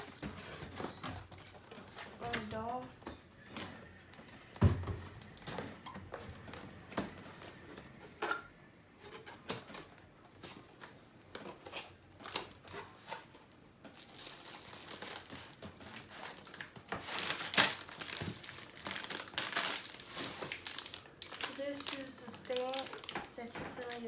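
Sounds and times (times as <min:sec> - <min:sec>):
packaging crinkling and rustling: 0:00.0 - 0:08.3, 0:09.0 - 0:24.0.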